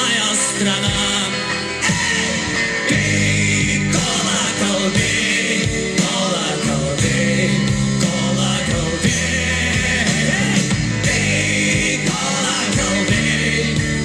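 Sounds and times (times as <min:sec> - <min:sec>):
rock band playing: 0:00.0 - 0:14.0
steady drum beat: 0:00.9 - 0:14.0.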